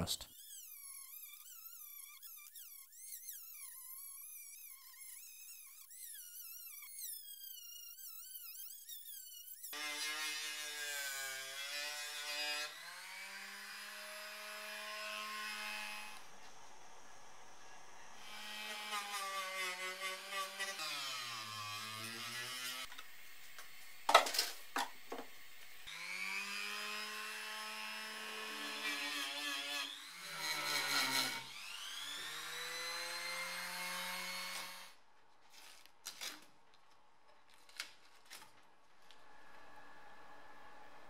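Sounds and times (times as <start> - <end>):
rotary tool grinding metal: 0.3 - 16.5, 18.0 - 35.0.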